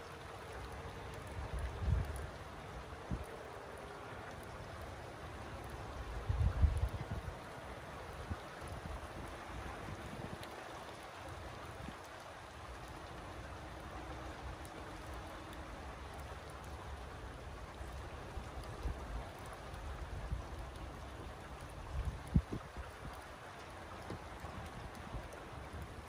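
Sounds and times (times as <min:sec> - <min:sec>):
raindrops ticking: 0:00.0 - 0:26.0
steady rain hiss: 0:00.0 - 0:26.0.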